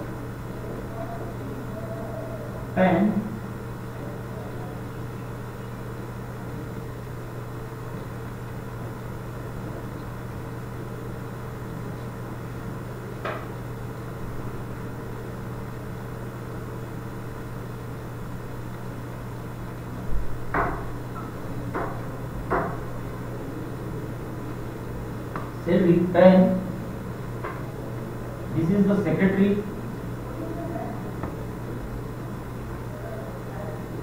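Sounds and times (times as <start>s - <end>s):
equipment humming: 0.0s - 34.0s.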